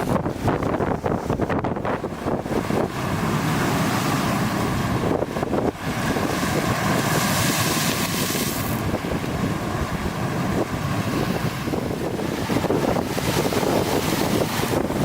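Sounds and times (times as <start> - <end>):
rough lake waves: 0.0 - 15.0
strong wind buffeting microphone: 0.0 - 15.0.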